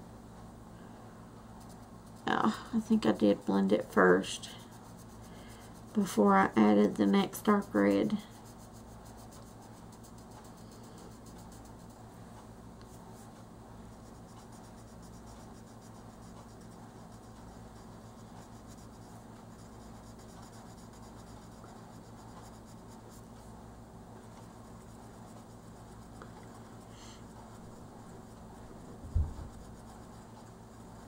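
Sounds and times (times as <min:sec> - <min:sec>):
steady low hum: 0:00.0 - 0:31.0
colored pencil scratching on paper: 0:01.6 - 0:12.1, 0:12.8 - 0:23.6, 0:24.2 - 0:31.0.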